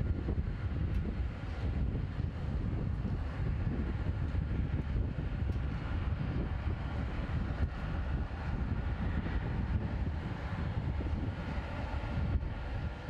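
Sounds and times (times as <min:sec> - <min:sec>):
jet engines low rumble: 0:00.0 - 0:13.0.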